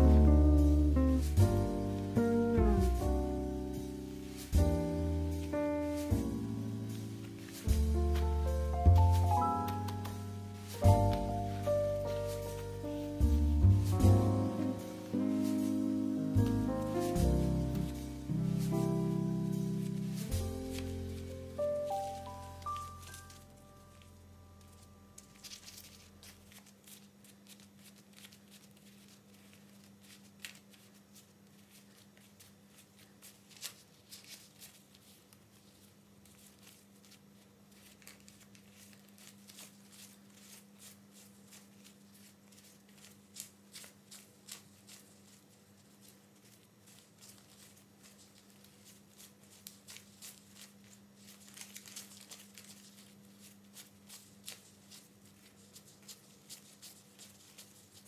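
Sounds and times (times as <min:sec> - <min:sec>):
low steady hum: 0:00.0 - 0:58.0
paper banknotes rustling: 0:00.0 - 0:58.0
soft crackles: 0:00.0 - 0:58.0.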